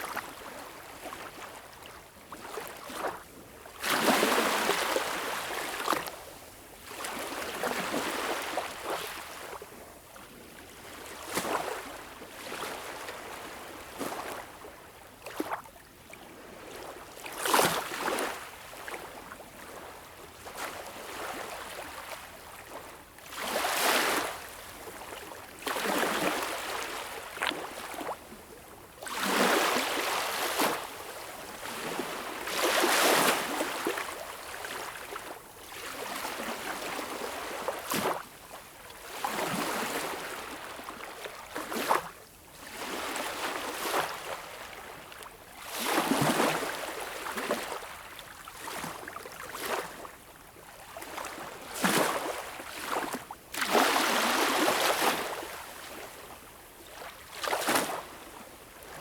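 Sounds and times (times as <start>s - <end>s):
small waves lapping on beach: 0.0s - 59.0s.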